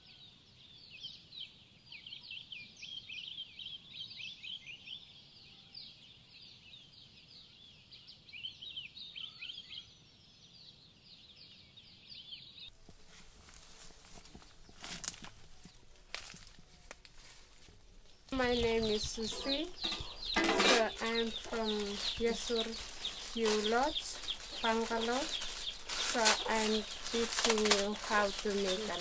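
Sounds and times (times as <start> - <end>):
small birds chirping and twittering: 0.0 - 29.0.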